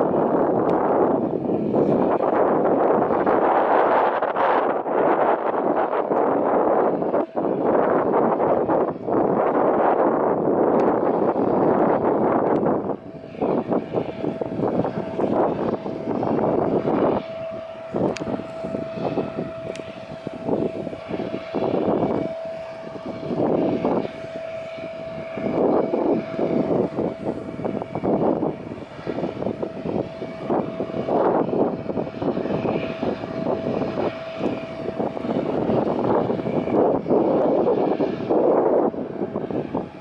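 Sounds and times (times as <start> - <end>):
jet engines whining: 0.0 - 40.0
wind buffeting microphone: 0.0 - 40.0.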